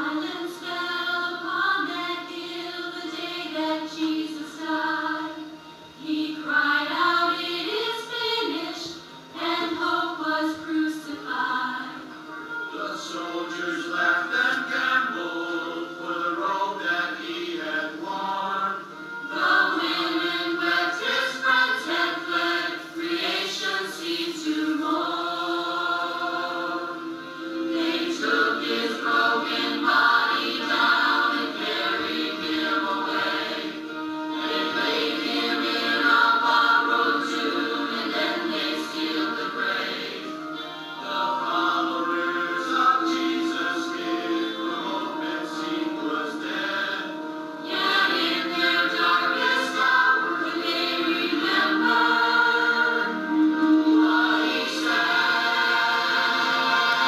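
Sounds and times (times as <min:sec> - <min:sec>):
church choir singing: 0:00.0 - 0:57.0.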